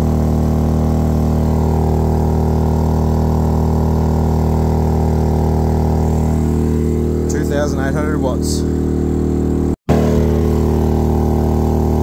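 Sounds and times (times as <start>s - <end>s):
inverter generator running: 0.0s - 12.0s.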